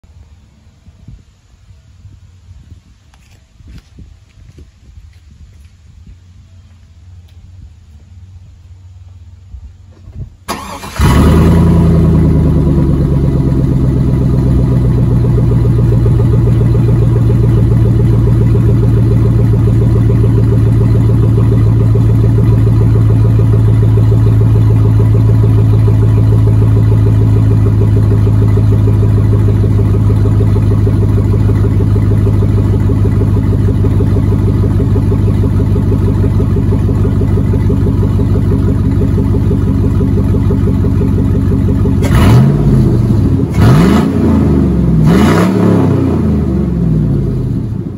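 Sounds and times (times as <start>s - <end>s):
truck engine starting and idling: 2.1s - 47.9s.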